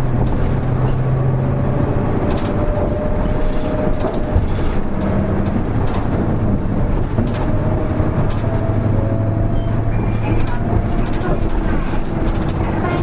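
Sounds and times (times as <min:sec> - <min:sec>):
bus diesel engine drone: 0:00.0 - 0:13.0.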